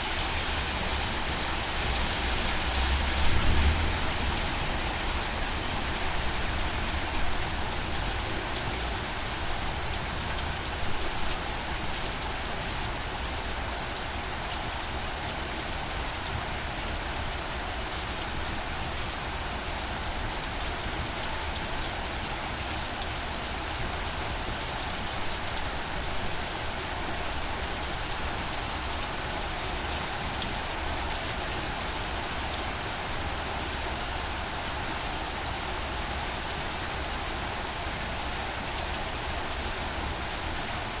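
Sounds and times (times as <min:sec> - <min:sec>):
steady rain pattering: 0:00.0 - 0:41.0.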